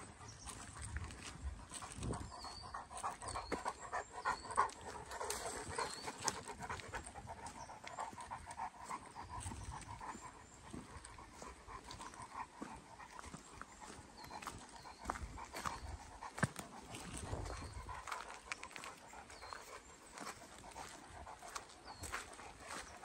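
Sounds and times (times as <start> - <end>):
dog panting: 0.0 - 23.0.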